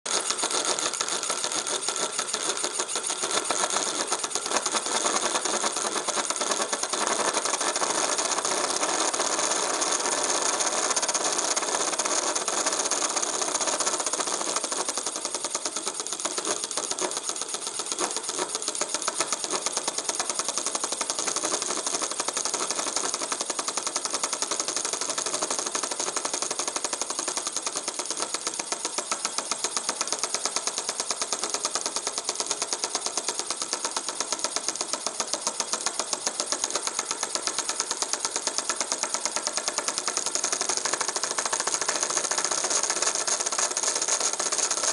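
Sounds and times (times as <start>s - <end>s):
small electric motor buzzing rattle: 0.1s - 44.9s.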